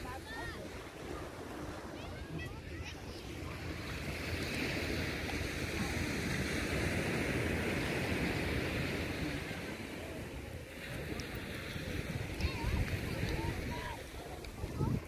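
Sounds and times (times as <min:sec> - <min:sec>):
small waves washing onto shore: 0:00.0 - 0:15.0
wind buffeting microphone: 0:00.0 - 0:15.0.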